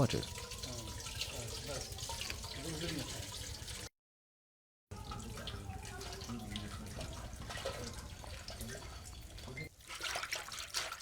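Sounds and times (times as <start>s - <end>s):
water running and splashing: 0.0s - 3.9s, 4.9s - 11.0s.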